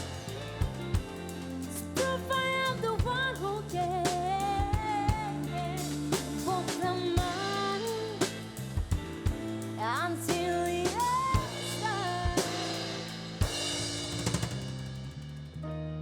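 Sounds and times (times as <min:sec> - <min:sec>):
drum kit hits: 0:00.0 - 0:02.3, 0:04.3 - 0:15.2
live band playing soul-pop song: 0:00.0 - 0:15.0.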